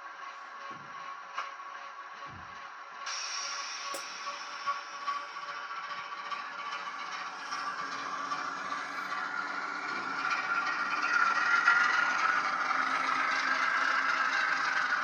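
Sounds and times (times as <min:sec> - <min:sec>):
model train rattling on track: 0:00.0 - 0:15.0.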